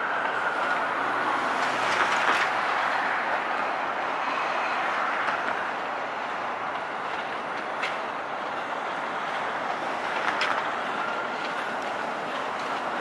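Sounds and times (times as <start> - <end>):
steel wheels rushing on rail: 0.0 - 13.0.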